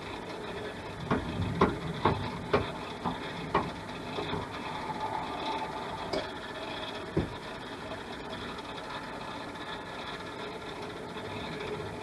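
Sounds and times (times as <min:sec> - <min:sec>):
wood lathe humming: 0:00.0 - 0:12.0.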